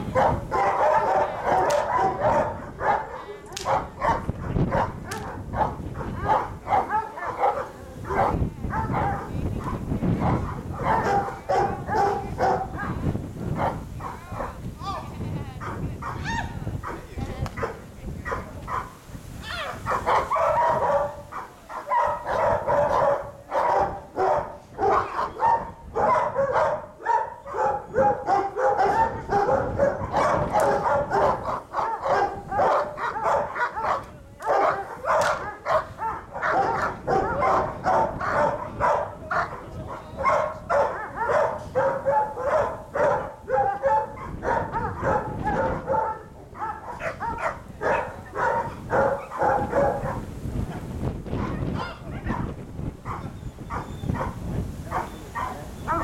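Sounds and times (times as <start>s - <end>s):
dogs barking rapidly: 0.0s - 14.6s, 15.6s - 56.0s.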